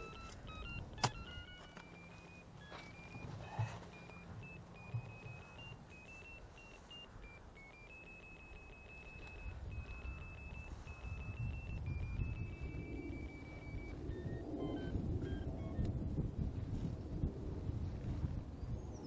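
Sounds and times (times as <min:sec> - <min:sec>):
high electronic receiver tone: 0:00.0 - 0:15.9.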